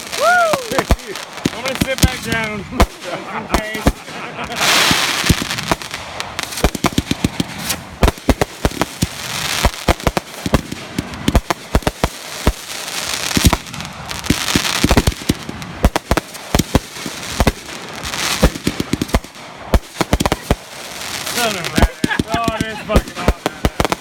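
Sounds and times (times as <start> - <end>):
fireworks bangs: 0.0 - 24.0
fireworks hissing and crackling: 0.0 - 24.0.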